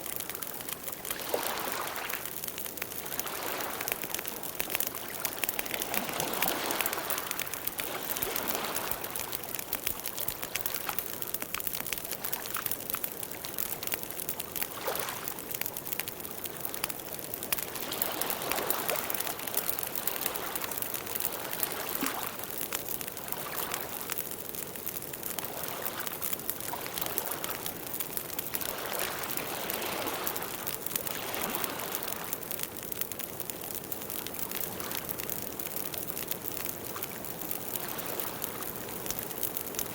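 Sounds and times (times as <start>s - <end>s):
campfire crackles and pops: 0.0s - 39.9s.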